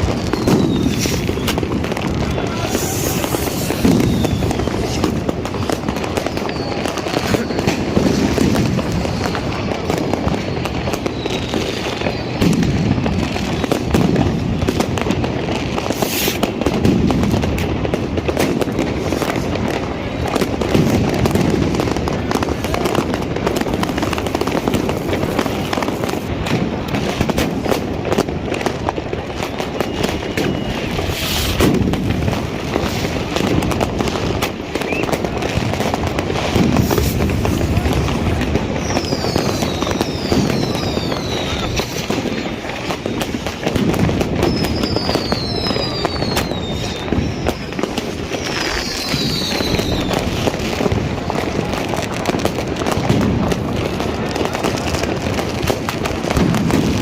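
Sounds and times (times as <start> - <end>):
fireworks and firecrackers banging: 0.0 - 57.0
whistling rockets: 0.0 - 57.0.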